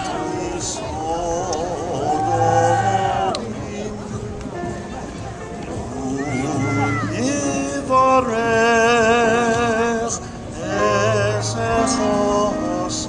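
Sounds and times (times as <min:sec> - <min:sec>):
man singing with vibrato: 0:00.0 - 0:04.4, 0:05.8 - 0:13.0.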